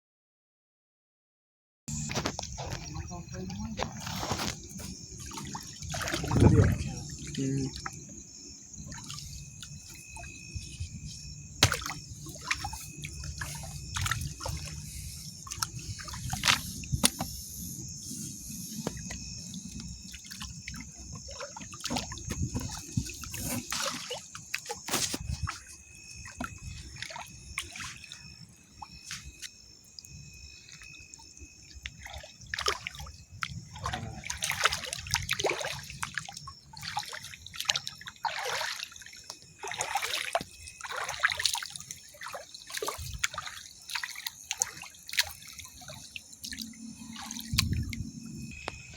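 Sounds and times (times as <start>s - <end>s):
wading through shallow water: 1.9s - 48.9s
water splashes: 1.9s - 48.9s.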